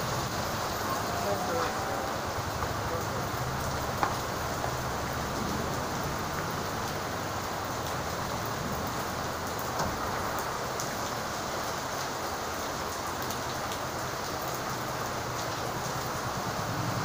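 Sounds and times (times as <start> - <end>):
rain on wet pavement: 0.0 - 17.0.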